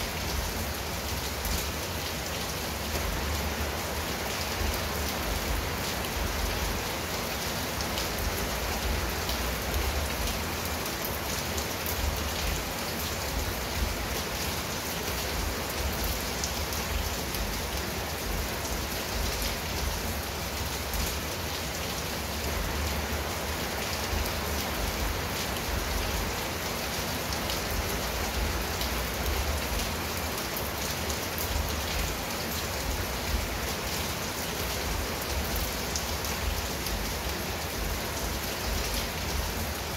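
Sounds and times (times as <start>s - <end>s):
rain on tiled roof and shrubs: 0.0s - 39.9s.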